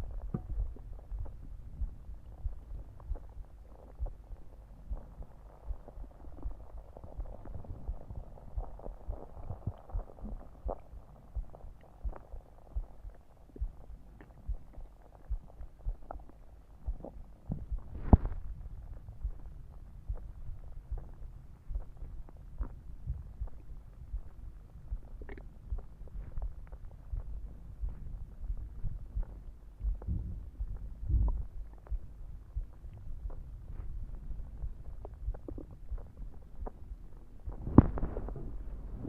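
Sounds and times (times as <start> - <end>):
heartbeat: 0.0 - 39.0
stomach growling and gurgling: 0.0 - 39.0.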